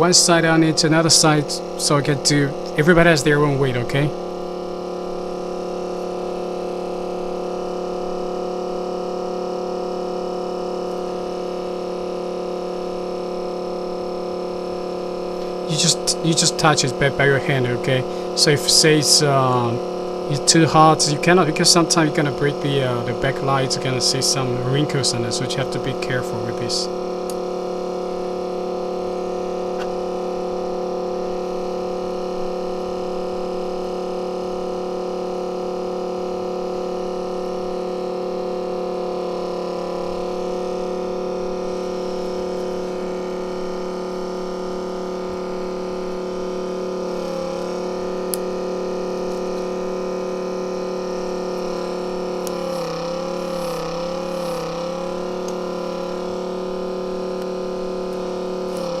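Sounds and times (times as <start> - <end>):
electrical machine hum: 0.0 - 59.0.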